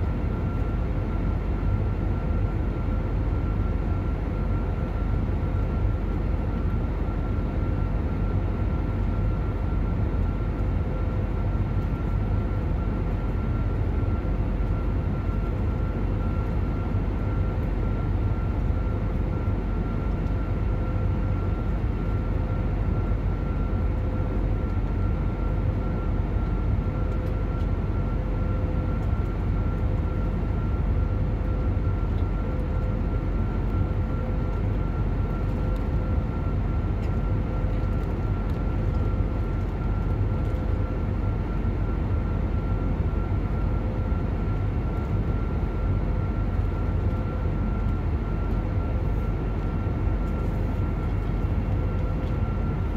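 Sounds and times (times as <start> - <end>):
airplane cabin engine noise: 0.0 - 52.9.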